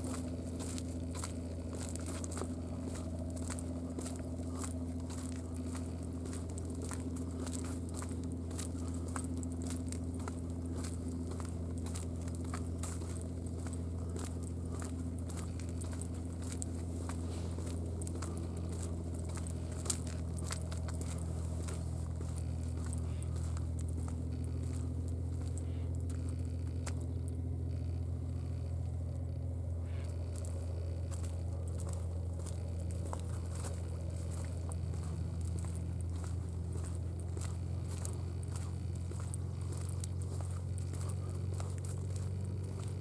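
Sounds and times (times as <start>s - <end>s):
footstep crackles: 0.0s - 43.0s
low steady hum: 0.0s - 43.0s.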